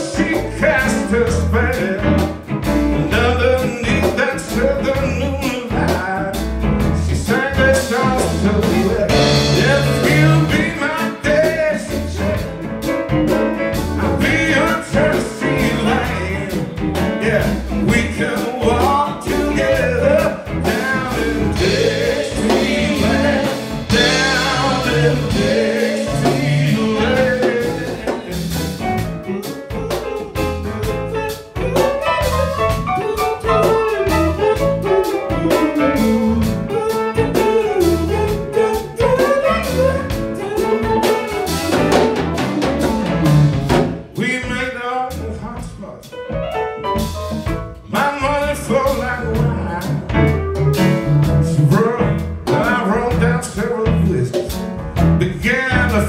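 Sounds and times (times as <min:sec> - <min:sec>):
man singing: 0:00.0 - 0:12.8, 0:13.8 - 0:42.0, 0:44.1 - 0:46.1, 0:47.8 - 0:50.4, 0:51.3 - 0:56.0
live blues-rock band: 0:00.0 - 0:56.0.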